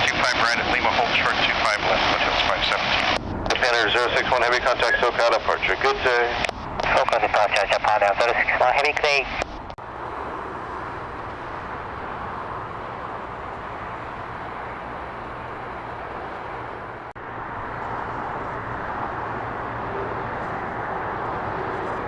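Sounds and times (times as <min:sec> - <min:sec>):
jet engine rushing: 0:00.0 - 0:22.0.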